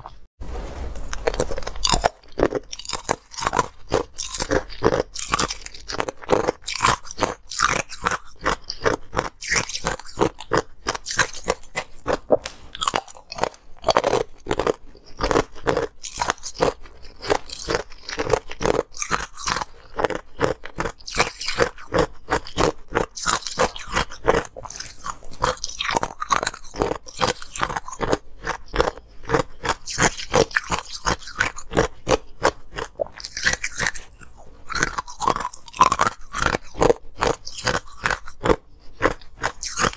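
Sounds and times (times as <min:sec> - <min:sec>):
ice crunching and chewing: 0:01.0 - 0:39.9.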